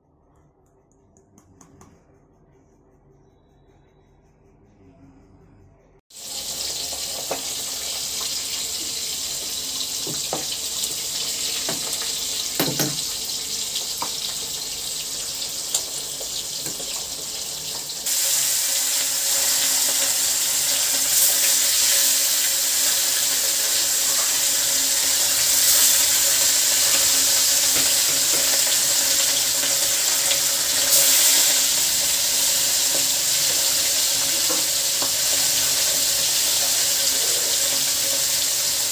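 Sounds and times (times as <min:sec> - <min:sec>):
spices sizzling in hot oil: 0:06.1 - 0:38.9.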